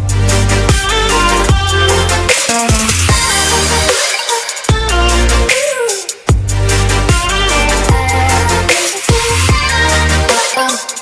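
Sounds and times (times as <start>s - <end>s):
dubstep music with heavy bass: 0.0s - 11.0s.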